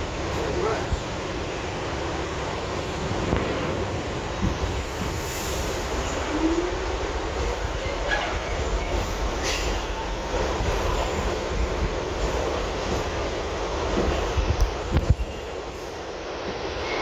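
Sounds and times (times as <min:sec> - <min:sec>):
subway car rumbling on track: 0:00.0 - 0:17.0.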